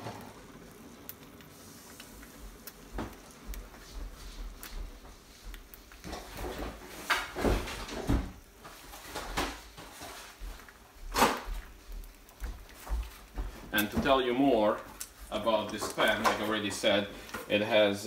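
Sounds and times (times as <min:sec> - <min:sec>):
eggs sizzling in a frying pan: 0:00.0 - 0:18.0
oil popping and crackling: 0:00.0 - 0:18.0.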